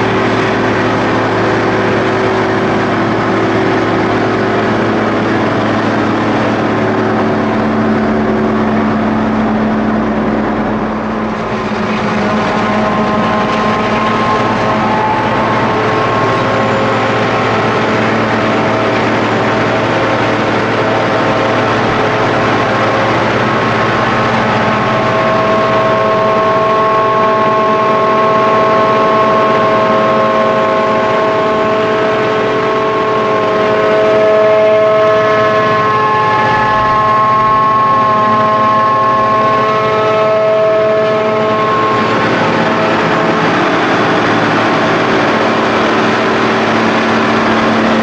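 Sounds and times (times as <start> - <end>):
loud harvester engine: 0.0 - 48.0
steady high whine: 0.0 - 48.0.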